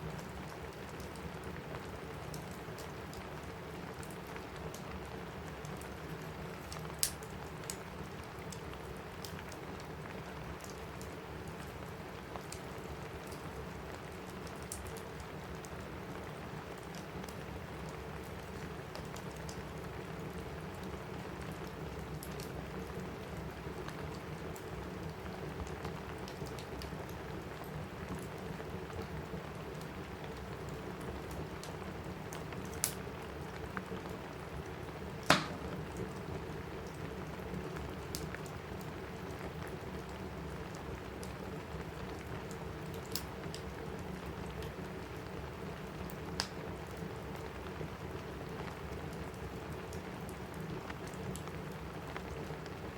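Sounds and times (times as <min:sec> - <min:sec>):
rain falling on a roof: 0:00.0 - 0:52.9
wood fire crackling: 0:00.0 - 0:52.9.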